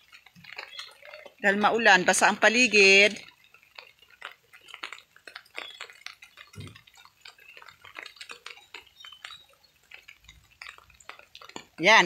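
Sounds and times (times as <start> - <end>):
rainwater dripping: 0.0 - 12.0.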